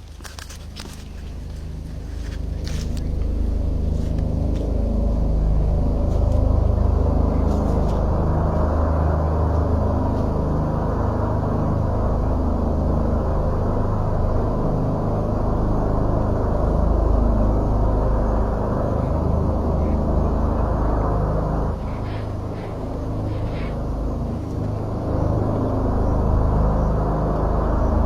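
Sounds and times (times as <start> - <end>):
low rumbling drone: 0.0 - 28.0.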